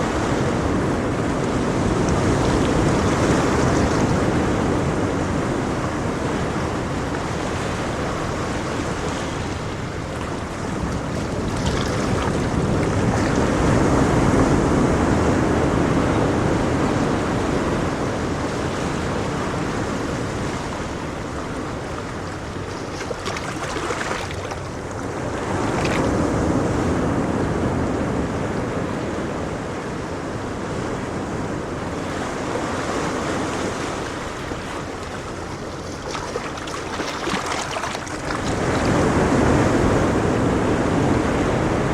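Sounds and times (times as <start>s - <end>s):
ocean waves washing on shore: 0.0s - 41.9s.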